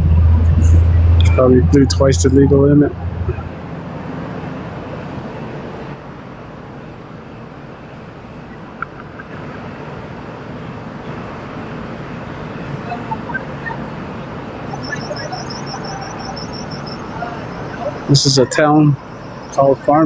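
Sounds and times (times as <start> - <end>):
vehicle running: 0.0 - 6.0, 9.0 - 20.0
faint distant voices: 0.0 - 20.0
traffic: 0.0 - 20.0.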